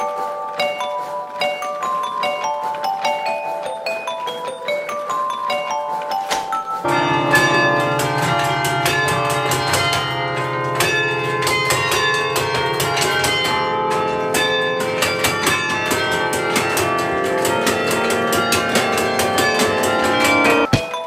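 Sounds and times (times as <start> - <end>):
carillon bells playing melody: 0.0 - 21.0.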